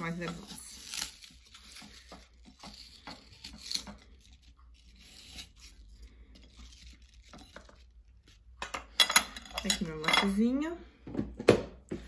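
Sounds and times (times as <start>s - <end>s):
knife cutting and scraping apple: 0.0s - 10.6s.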